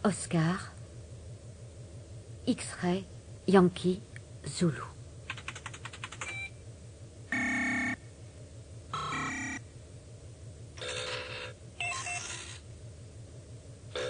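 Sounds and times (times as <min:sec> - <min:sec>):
low pulsing hum: 0:00.0 - 0:14.0.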